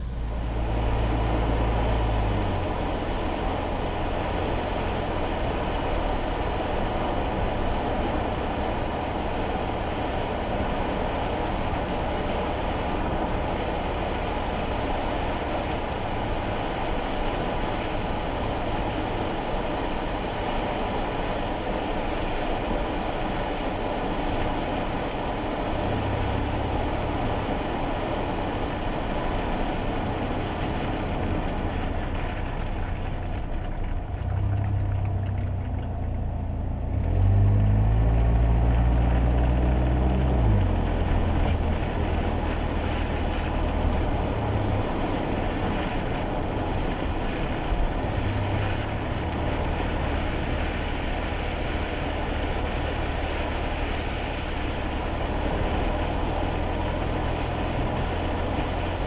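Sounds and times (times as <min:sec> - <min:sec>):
deep engine rumble: 0:00.0 - 0:59.0
rain: 0:00.0 - 0:59.0
road and tyre noise: 0:00.0 - 0:59.0.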